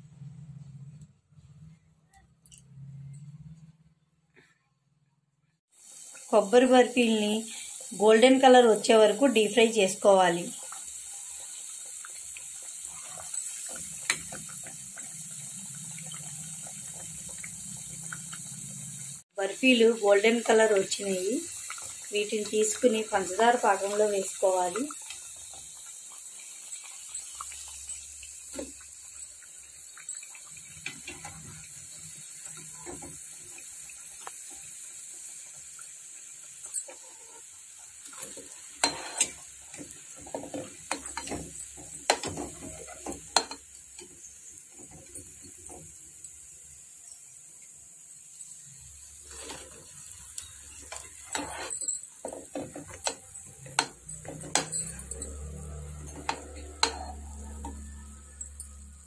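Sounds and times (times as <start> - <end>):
hot oil sizzling: 5.7 - 59.0.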